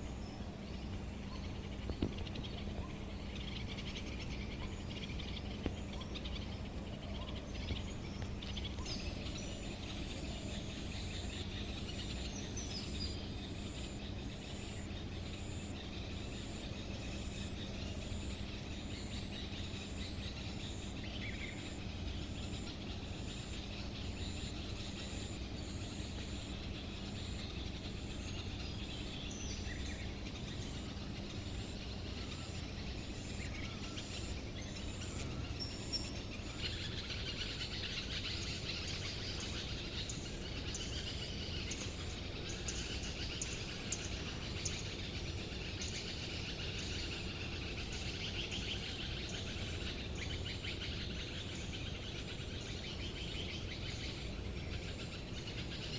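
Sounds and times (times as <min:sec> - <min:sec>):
birds chirping and singing: 0:00.0 - 0:55.9
pulsing insect call: 0:00.0 - 0:55.9.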